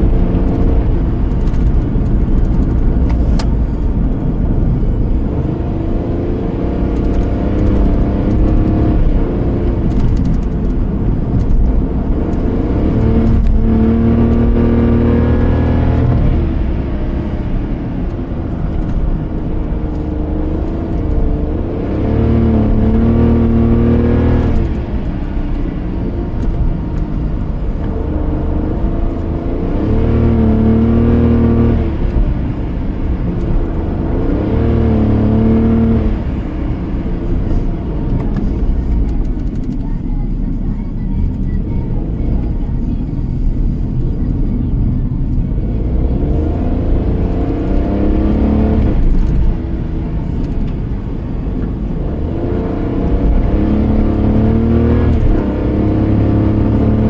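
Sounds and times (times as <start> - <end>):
car engine accelerating: 0.0 - 57.0
road noise: 0.0 - 57.0.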